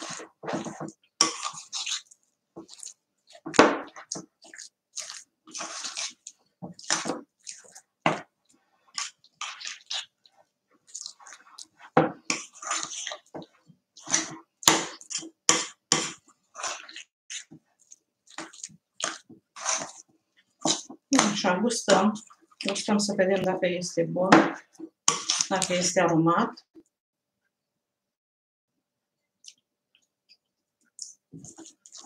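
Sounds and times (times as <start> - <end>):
spoon stirring sticky mixture: 0.0 - 26.1, 29.3 - 32.0.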